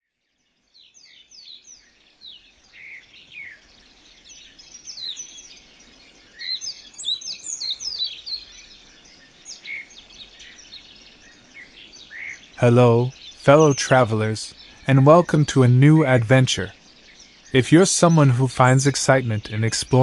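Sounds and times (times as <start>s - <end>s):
birds chirping: 2.6s - 20.0s.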